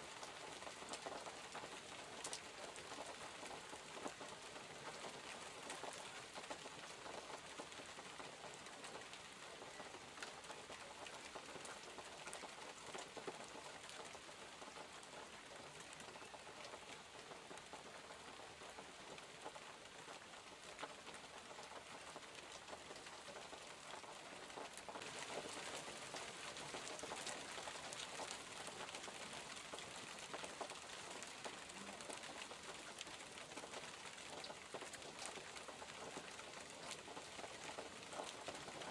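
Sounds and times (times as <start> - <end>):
raindrops ticking: 0.0 - 38.9
steady rain hiss: 0.0 - 38.9.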